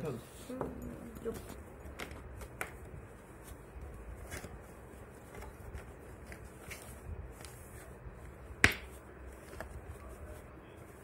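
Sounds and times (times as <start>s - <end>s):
fabric rustling and scraping: 0.0s - 11.0s.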